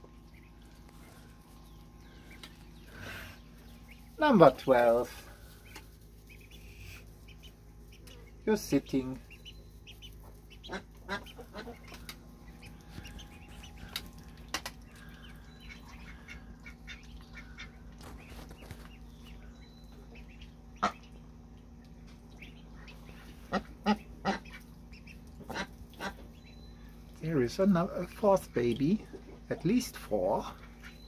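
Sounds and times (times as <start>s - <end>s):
ducks and ducklings calling: 0.0s - 31.0s.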